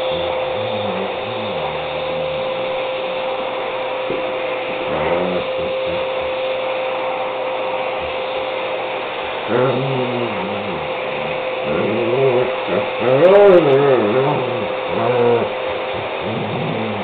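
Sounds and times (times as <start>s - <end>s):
dog vocalizing: 0.0s - 3.5s, 4.1s - 6.9s, 7.8s - 8.3s, 9.4s - 17.0s
vacuum cleaner whining: 0.0s - 17.0s.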